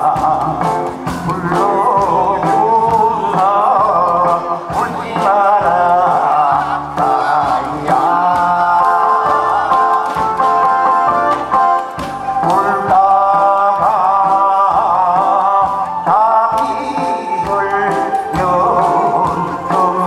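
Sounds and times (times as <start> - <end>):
man singing into microphone: 0.0 - 10.2, 12.3 - 20.0
amplified backing music: 0.0 - 20.0.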